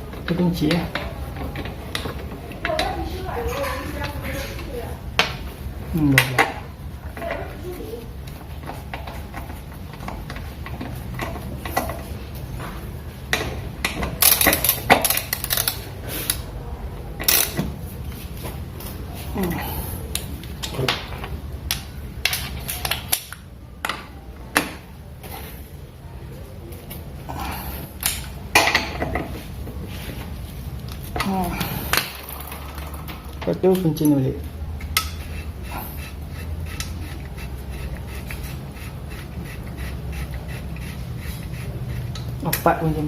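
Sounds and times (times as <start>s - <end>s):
low background hum: 0.0s - 43.0s.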